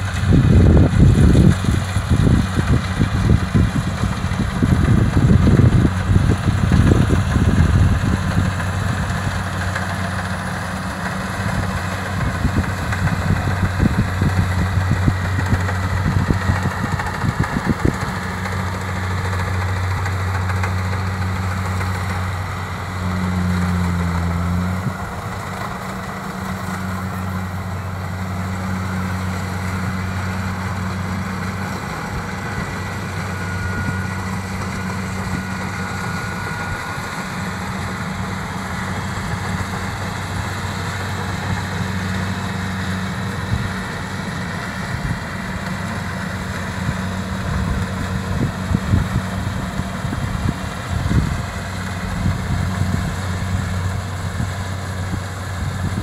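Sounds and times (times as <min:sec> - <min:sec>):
combine harvester diesel engine running: 0:00.0 - 0:56.0.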